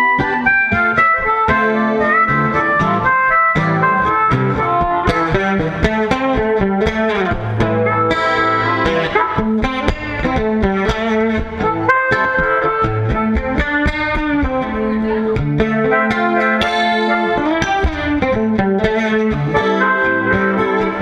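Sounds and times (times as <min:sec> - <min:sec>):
guitar picking quick runs: 0:00.0 - 0:21.0
live blues band: 0:00.0 - 0:21.0.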